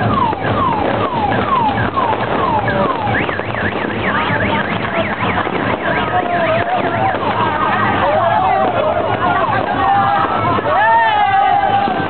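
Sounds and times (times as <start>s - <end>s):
electronic siren: 0.0s - 9.8s
crowd noise: 0.0s - 12.0s.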